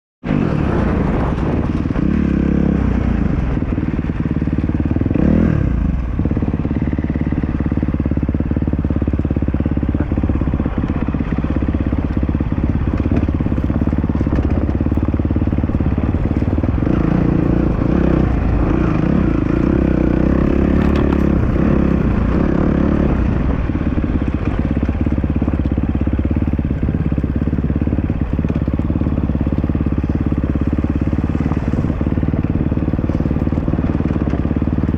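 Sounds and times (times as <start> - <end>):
dirt bike engine running: 0.2 - 34.9.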